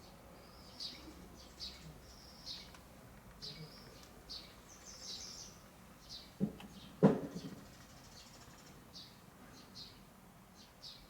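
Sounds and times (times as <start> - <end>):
small birds chirping: 0.4 - 2.8, 3.4 - 11.0.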